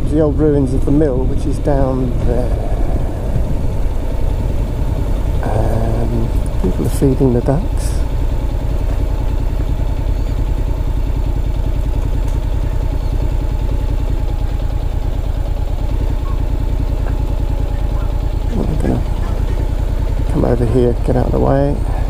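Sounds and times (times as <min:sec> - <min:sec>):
motorcycle engine running at low revs: 0:00.0 - 0:22.0.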